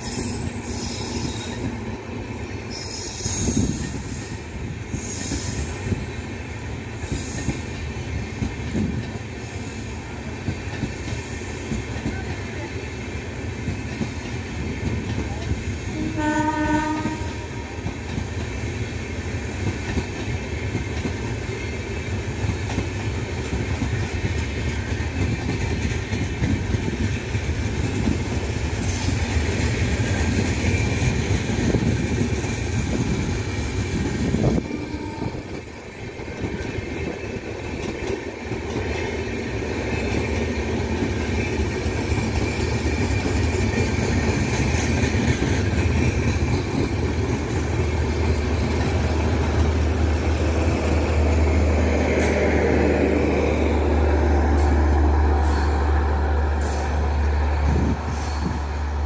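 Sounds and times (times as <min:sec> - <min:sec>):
train coaches rumbling past: 0:00.0 - 0:59.0.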